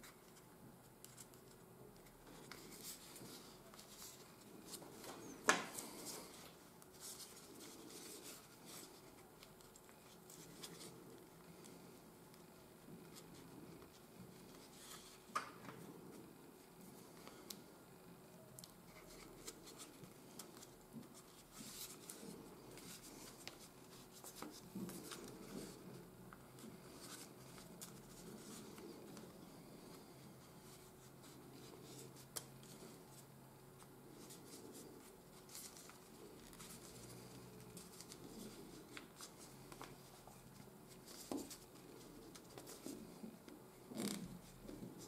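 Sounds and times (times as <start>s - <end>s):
paper rustling as it is folded: 0.0s - 17.7s, 18.6s - 45.0s.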